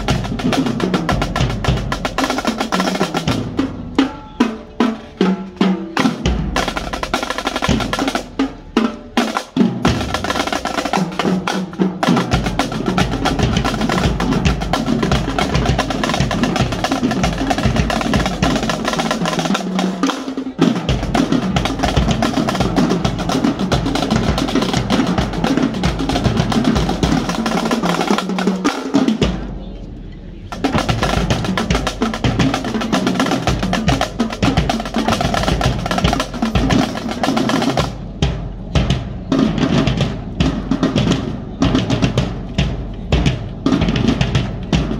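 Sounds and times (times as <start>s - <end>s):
marching snare and tenor drums: 0.0s - 44.9s.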